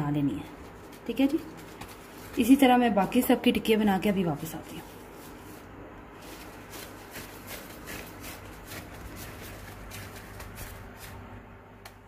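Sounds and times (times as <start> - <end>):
soft squishes of potato mixture: 0.1 - 11.3
plastic gloves crinkling: 0.2 - 12.0.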